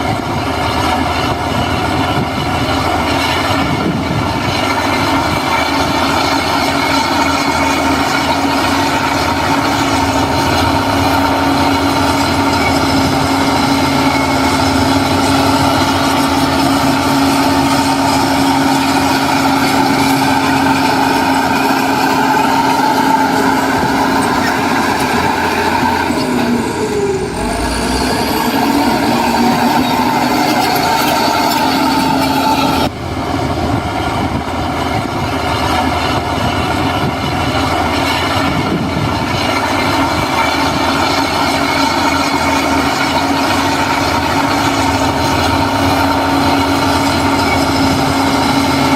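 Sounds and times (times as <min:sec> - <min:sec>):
heavy machinery engine running: 0:00.0 - 0:48.9
steady machine whine: 0:00.0 - 0:48.9.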